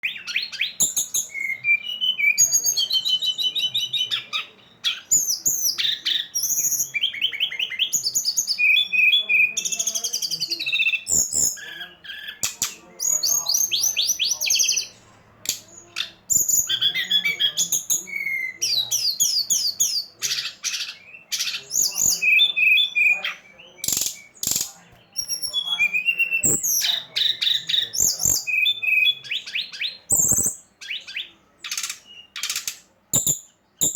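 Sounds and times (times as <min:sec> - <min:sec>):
songbird singing chirps and trills: 0:00.0 - 0:33.9.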